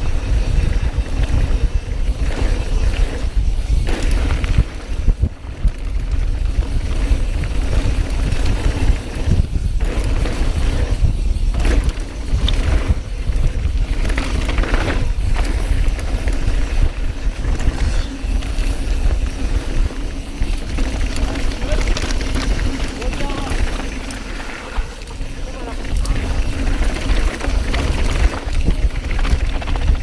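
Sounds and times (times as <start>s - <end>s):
bike tyres rattling on rough ground: 0.0s - 30.0s
wind buffeting microphone: 0.0s - 30.0s.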